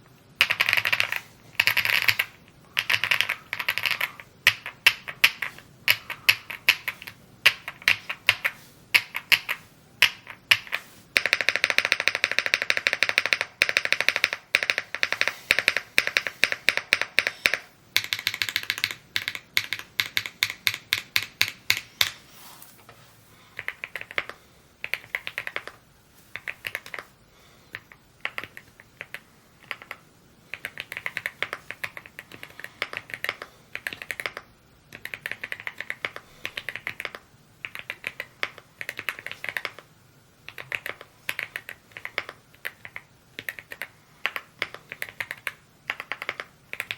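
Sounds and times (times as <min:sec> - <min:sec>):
mechanical keyboard typing: 0:00.4 - 0:22.2, 0:23.6 - 0:25.8, 0:26.4 - 0:27.1, 0:27.7 - 0:46.9.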